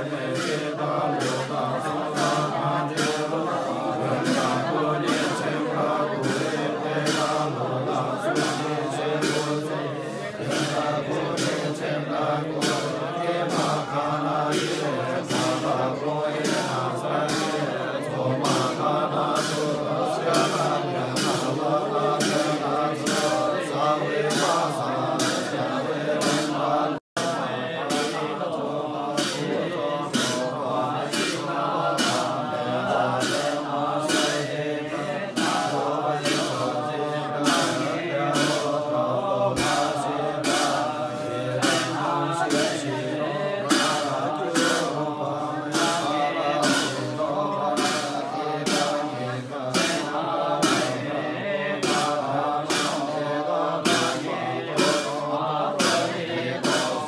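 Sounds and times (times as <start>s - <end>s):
men chanting: 0.0s - 57.0s
percussion strikes: 0.0s - 57.0s.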